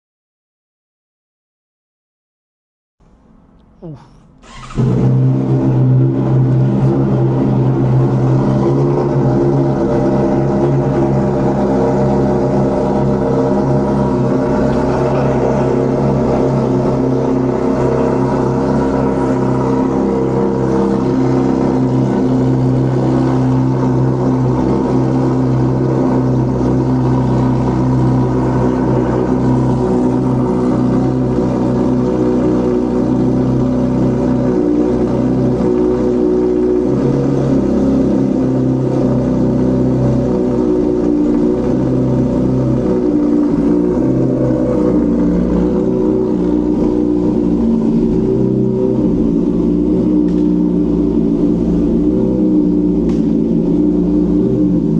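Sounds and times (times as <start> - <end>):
motorcycle engine at steady revs: 4.4 - 54.9.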